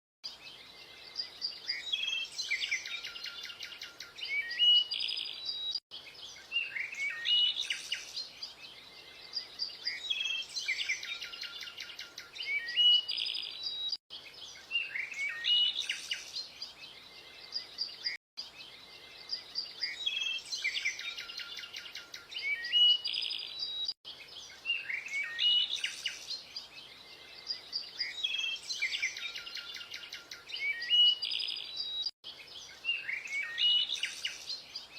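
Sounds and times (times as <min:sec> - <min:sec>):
birds chirping and singing: 0:00.3 - 0:34.9.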